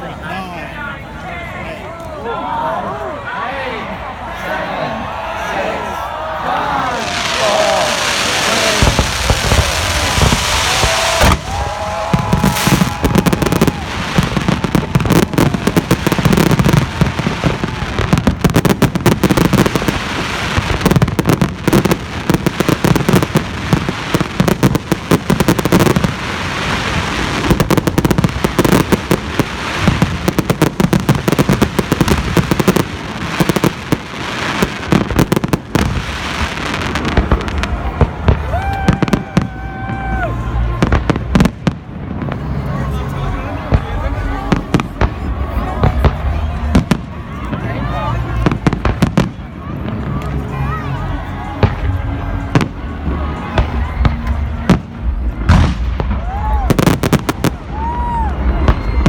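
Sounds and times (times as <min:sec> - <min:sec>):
fireworks bangs and crackling: 0:06.9 - 0:59.0.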